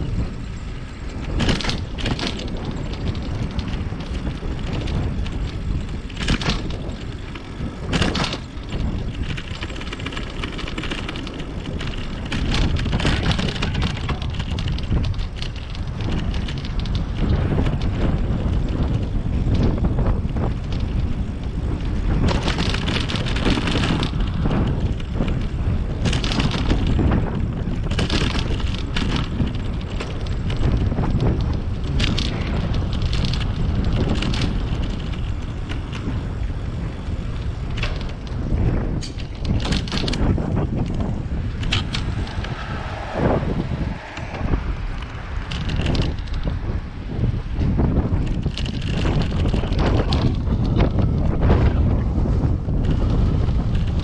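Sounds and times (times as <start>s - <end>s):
tyres rumbling on road: 0.0s - 54.0s
wind buffeting microphone: 0.0s - 54.0s.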